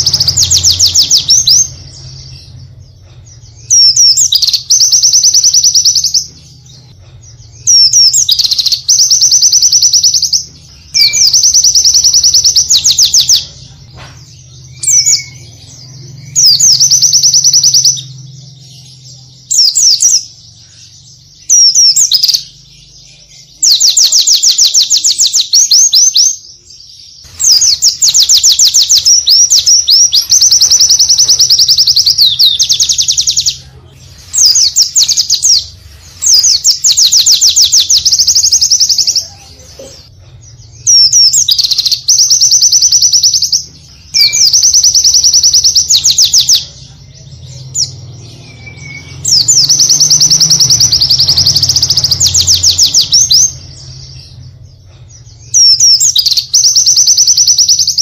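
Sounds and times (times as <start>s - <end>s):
bird singing high trills: 0.0s - 39.4s, 40.7s - 58.0s.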